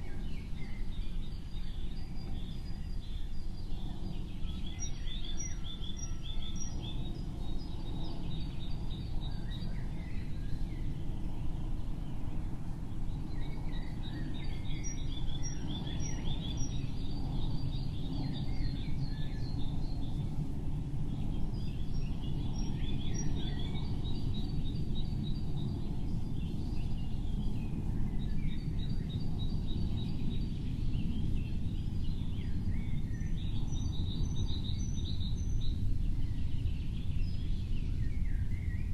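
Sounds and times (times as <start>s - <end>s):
songbird chirps and trills: 0.0s - 38.9s
steady low rumble: 0.0s - 38.9s.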